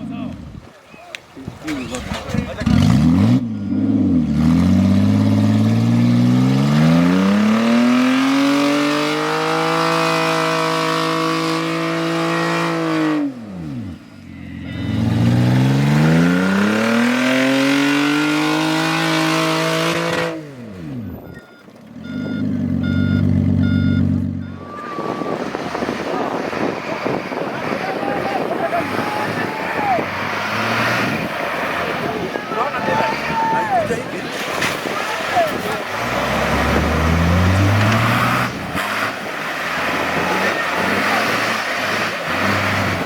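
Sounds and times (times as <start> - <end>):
off-road vehicle engine revving: 1.5 - 43.0.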